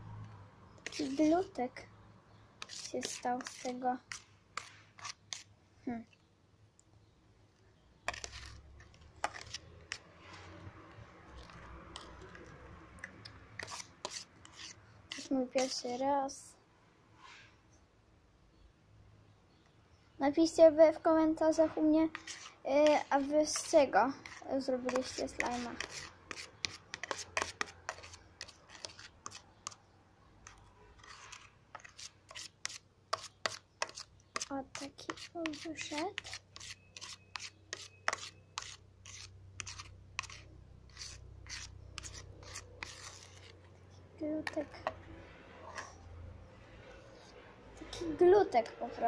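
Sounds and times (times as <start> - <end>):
spoon stirring thick paste: 0.2 - 5.6, 7.6 - 16.3, 21.1 - 49.0.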